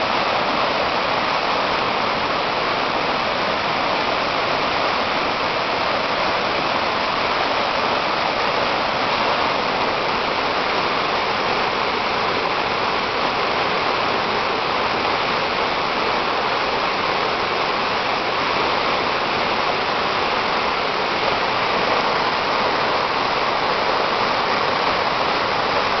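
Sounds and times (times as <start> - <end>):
mountain torrent rushing: 0.0 - 26.0.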